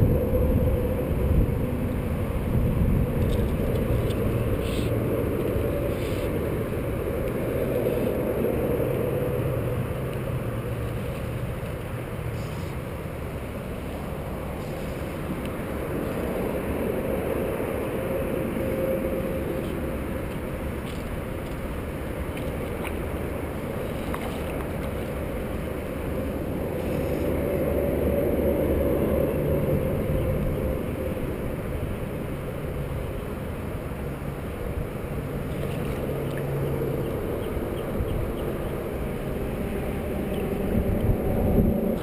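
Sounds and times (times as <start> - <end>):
low rumbling wind noise: 0.0 - 42.0.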